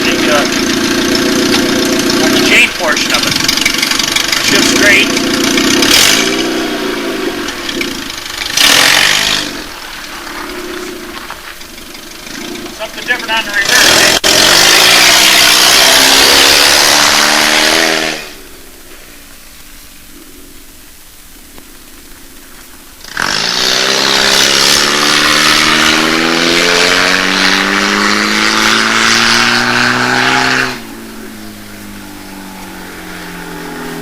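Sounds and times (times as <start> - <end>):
car engine accelerating: 0.0 - 19.4, 22.3 - 34.0.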